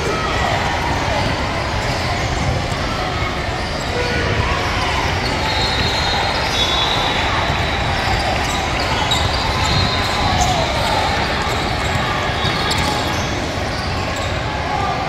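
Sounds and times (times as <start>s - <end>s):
chatter of spectators: 0.0s - 15.0s.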